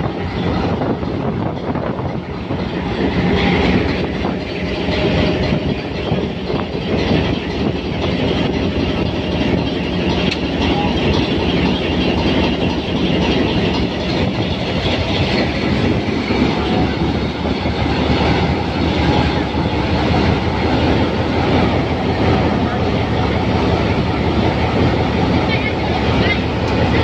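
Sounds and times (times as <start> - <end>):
diesel locomotive engine running: 0.0 - 27.0.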